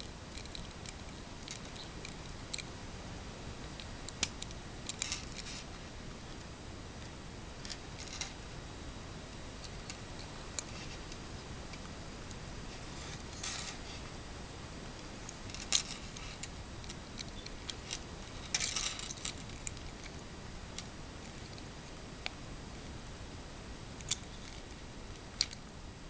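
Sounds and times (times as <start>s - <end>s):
steady low hiss: 0.0s - 26.0s.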